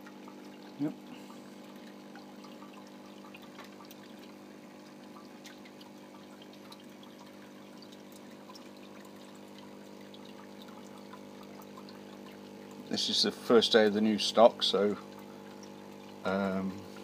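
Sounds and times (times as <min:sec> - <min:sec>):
filter humming: 0:00.0 - 0:17.0
water trickling: 0:00.0 - 0:17.0.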